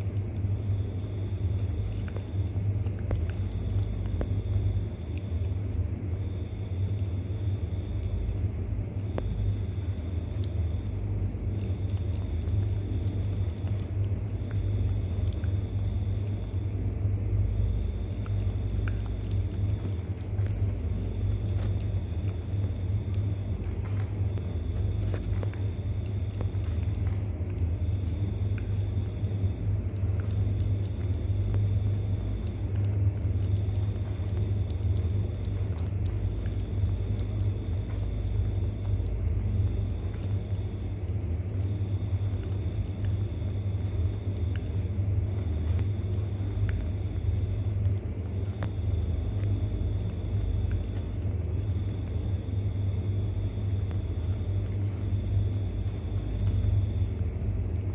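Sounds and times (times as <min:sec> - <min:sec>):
steady low rumble: 0:00.0 - 0:57.9.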